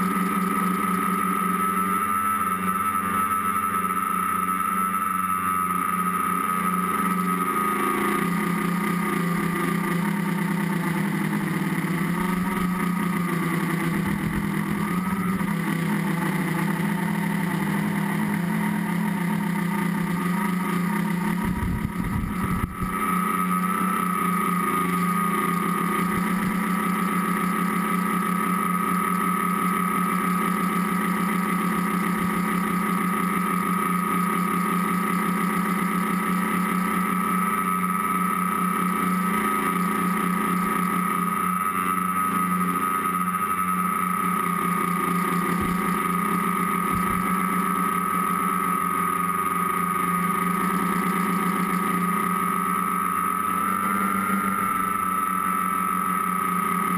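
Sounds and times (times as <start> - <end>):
drone motors buzzing whine: 0.0 - 56.9.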